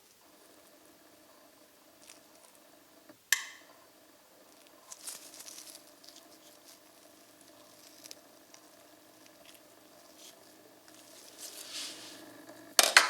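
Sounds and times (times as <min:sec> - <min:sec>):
soft crackling: 0:00.0 - 0:12.8
faint steady hum: 0:00.0 - 0:13.0.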